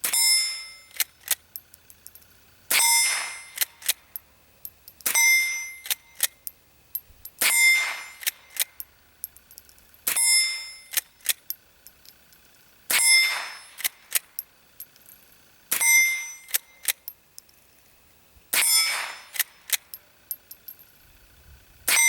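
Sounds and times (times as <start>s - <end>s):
metallic ring: 0.0s - 17.9s, 18.5s - 21.3s.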